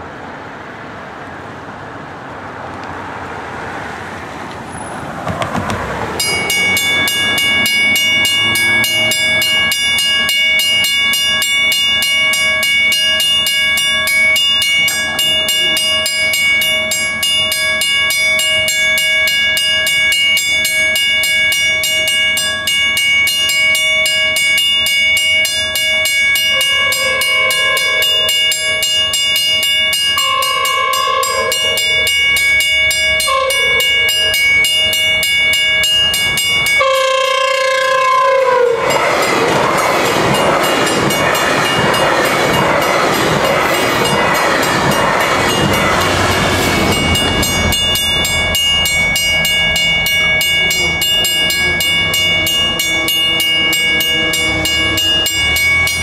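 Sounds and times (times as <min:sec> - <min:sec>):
train rumbling over rails: 0:00.0 - 0:56.0
wheels clicking on rail joints: 0:02.6 - 0:56.0
crossing bells ringing: 0:04.7 - 0:56.0.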